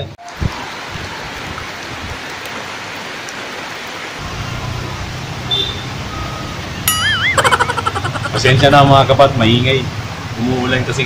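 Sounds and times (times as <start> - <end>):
heavy rain falling: 0.3 - 11.0.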